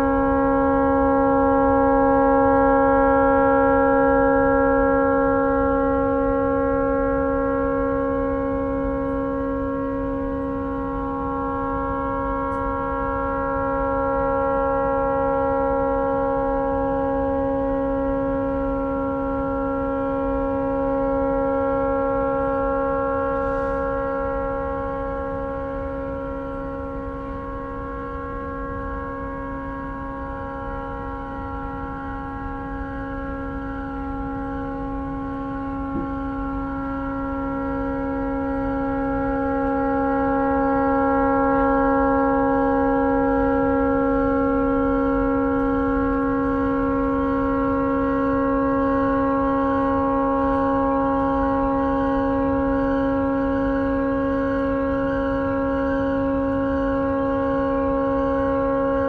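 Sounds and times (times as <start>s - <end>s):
continuous boat horn chord: 0.0s - 59.0s.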